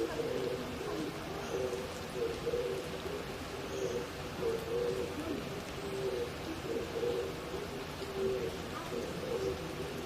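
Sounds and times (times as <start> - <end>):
dove cooing: 0.0 - 10.0
steady background hiss: 0.0 - 10.0.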